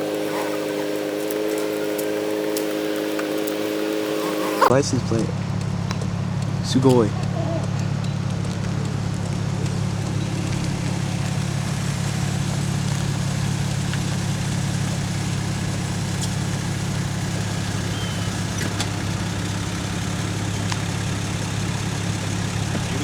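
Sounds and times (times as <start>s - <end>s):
car engine humming: 0.0s - 23.0s.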